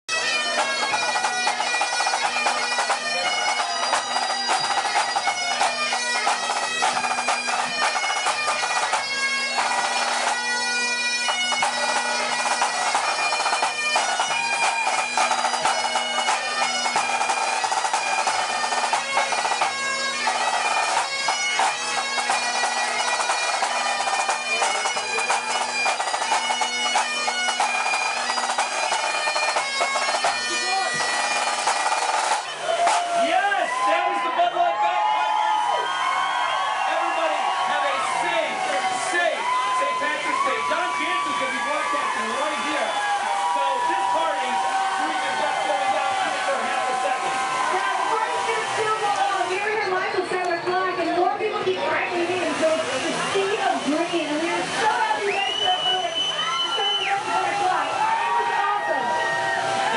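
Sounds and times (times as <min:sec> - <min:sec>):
bagpipes playing a tune: 0:00.1 - 0:35.0, 0:35.8 - 0:59.9.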